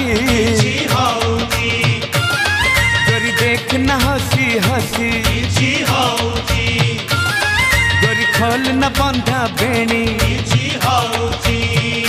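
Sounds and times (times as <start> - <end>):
pop song with percussion beat: 0.0 - 12.0.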